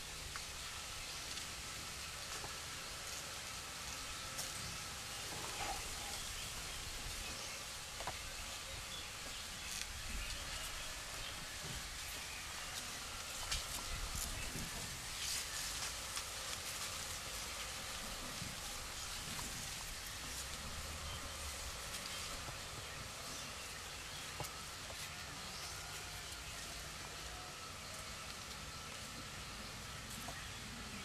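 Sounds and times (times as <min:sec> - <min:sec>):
steady high hiss: 0:00.0 - 0:31.0.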